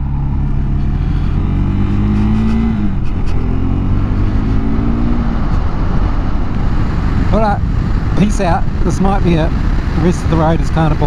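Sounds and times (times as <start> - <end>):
motorcycle engine accelerating: 0.0 - 11.0
wind rush: 0.0 - 11.0.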